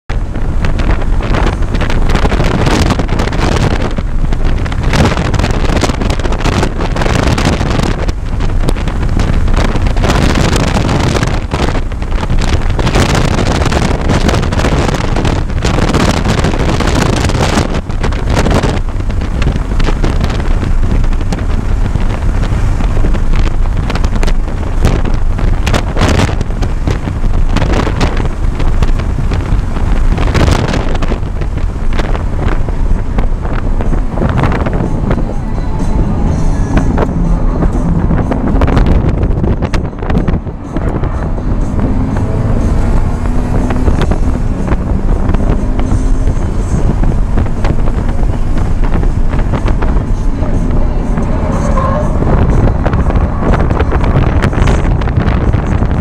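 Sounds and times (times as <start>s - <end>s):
car engine at high revs: 0.0s - 56.0s
wind and road noise: 0.0s - 56.0s.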